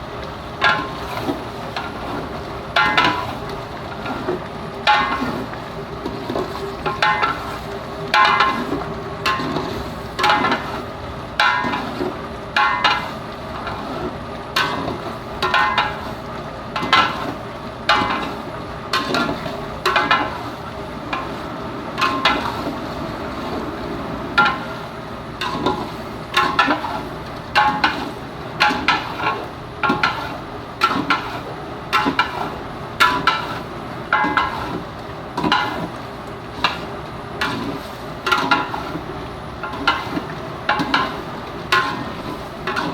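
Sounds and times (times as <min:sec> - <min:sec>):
hot oil sizzling: 0:00.0 - 0:42.9.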